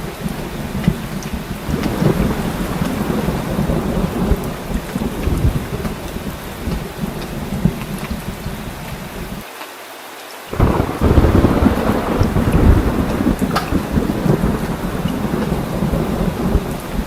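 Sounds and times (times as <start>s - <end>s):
low thunder rumble: 0.0s - 9.4s, 10.5s - 17.0s
heavy rain falling: 0.0s - 17.0s.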